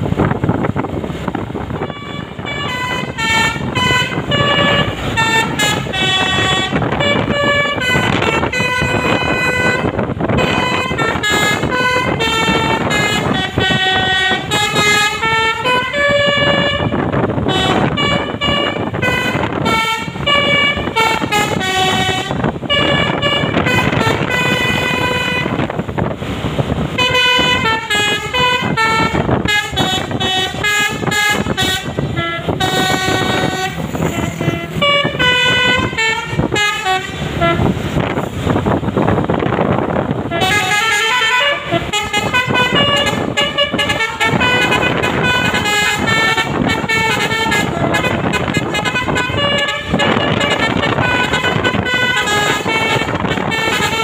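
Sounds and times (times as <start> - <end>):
engine and road noise: 0.0 - 54.0
bus horn playing a tune: 0.1 - 54.0.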